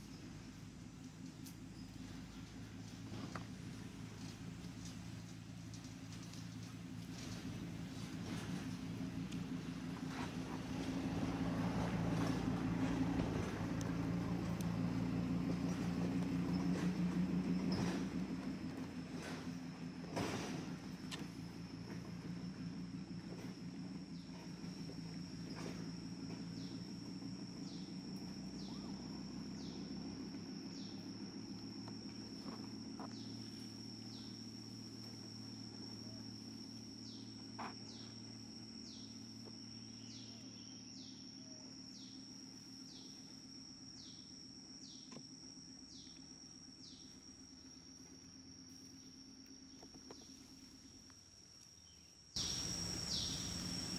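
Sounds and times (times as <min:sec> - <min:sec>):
high insect drone: 0:00.0 - 0:53.9
low steady hum: 0:00.0 - 0:53.9.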